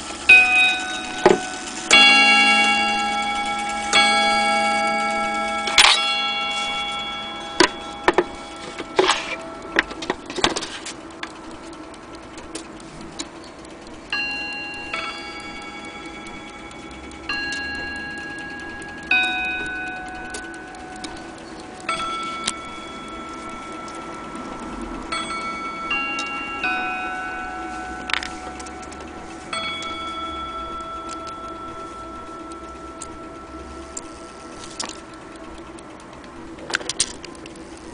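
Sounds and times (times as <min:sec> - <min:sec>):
mantle clock chiming: 0:00.0 - 0:37.9
sharp clicks: 0:05.1 - 0:37.9.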